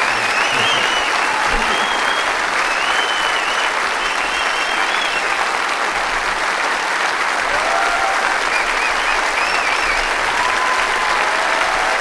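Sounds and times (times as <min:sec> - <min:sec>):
cheering and whistles: 0:00.0 - 0:05.8, 0:07.4 - 0:12.0
audience applauding: 0:00.0 - 0:12.0.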